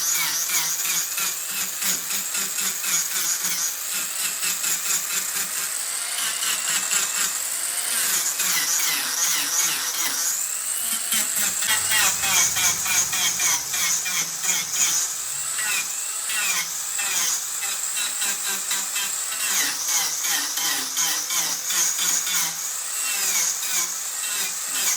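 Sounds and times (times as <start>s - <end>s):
angle grinder cutting wood: 0.0s - 24.9s.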